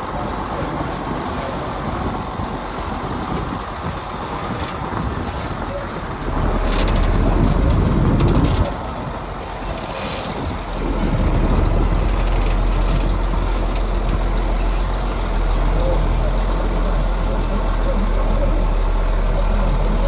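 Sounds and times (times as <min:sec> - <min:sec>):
diesel construction machinery running: 0:00.0 - 0:20.0.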